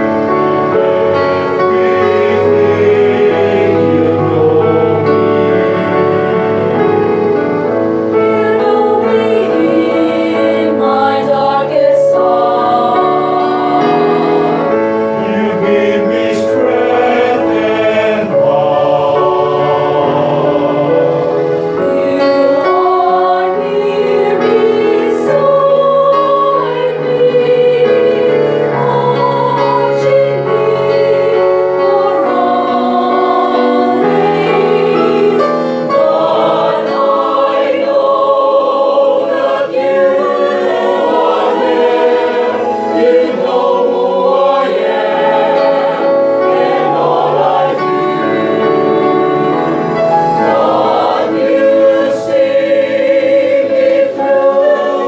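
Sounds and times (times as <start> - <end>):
choir singing: 0.0 - 55.0
electronic keyboard: 0.0 - 55.0.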